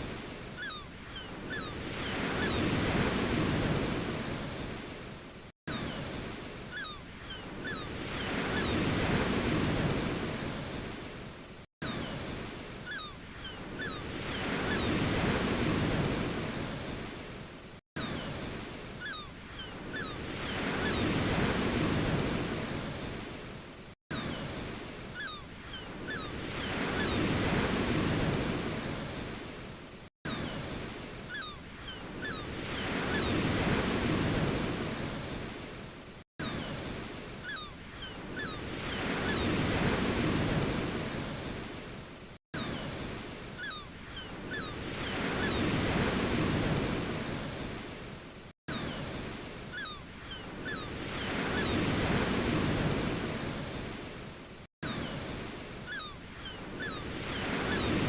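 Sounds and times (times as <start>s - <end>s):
ocean waves surging and washing back: 0.0s - 58.0s.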